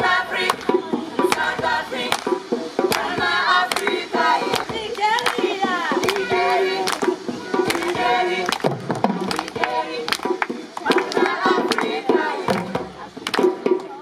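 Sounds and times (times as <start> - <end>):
group of voices singing: 0.0 - 13.9
sharp rhythmic strikes: 0.0 - 14.0.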